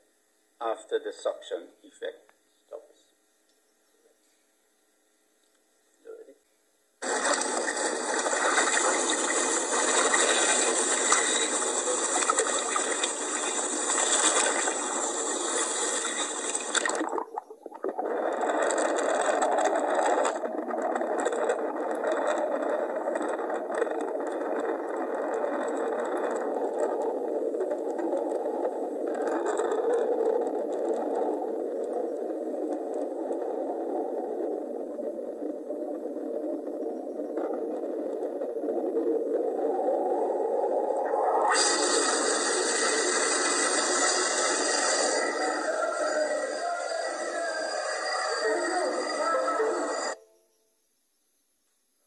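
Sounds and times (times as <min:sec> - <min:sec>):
rushing water underwater: 0:07.0 - 0:50.2.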